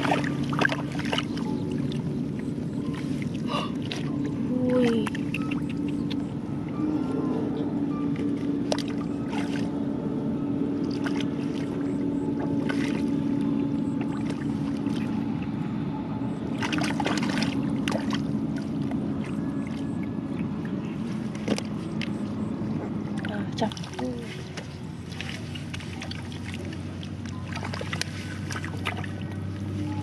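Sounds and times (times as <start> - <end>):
low motor drone: 0.0 - 30.0.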